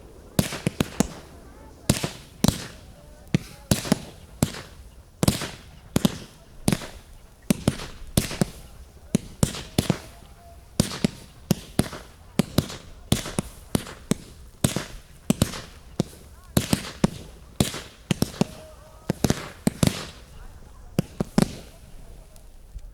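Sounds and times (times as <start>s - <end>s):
fireworks bangs: 0.0s - 22.9s.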